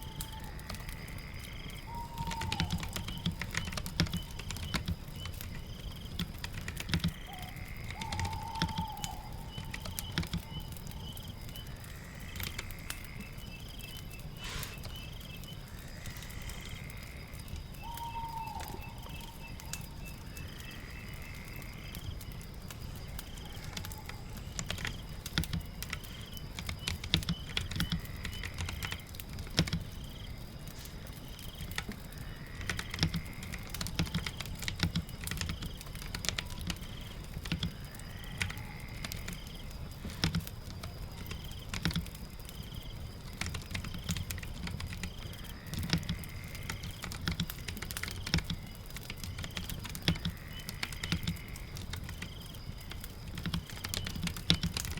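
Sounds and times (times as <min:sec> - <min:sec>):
fire crackling: 0:00.0 - 0:54.9
rain pattering: 0:00.0 - 0:54.9.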